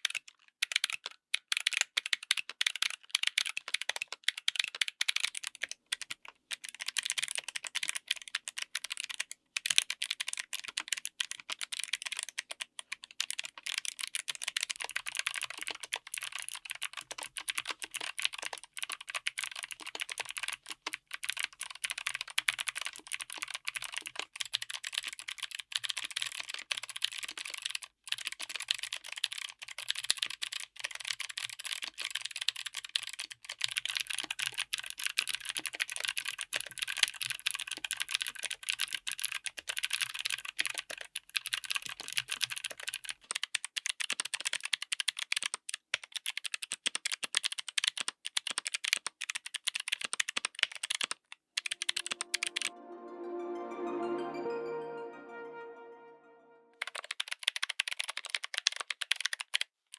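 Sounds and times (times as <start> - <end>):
fast typing on mechanical keyboard: 0.0 - 51.9, 57.2 - 59.9.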